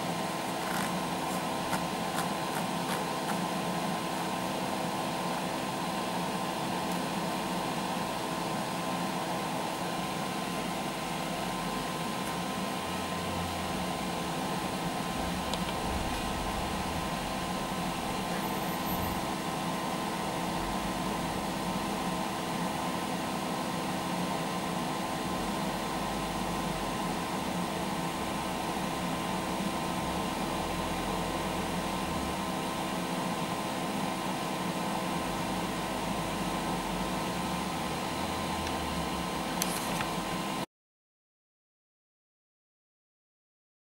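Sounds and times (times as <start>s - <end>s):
welding machine fan humming: 0.0s - 40.6s.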